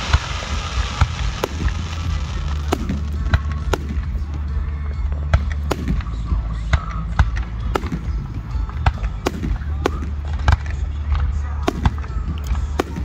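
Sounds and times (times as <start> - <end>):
low rumble: 0.0 - 12.9
distant fireworks bursting: 0.0 - 13.0.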